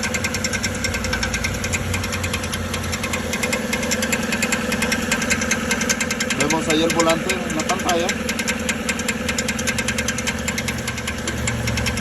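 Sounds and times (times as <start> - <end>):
engine idling with knocking tick: 0.0 - 12.0.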